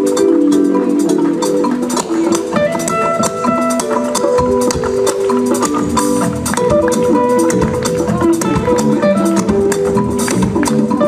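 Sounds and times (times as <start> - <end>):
drums and hand percussion: 0.0 - 11.0
live jazz band playing: 0.0 - 11.0.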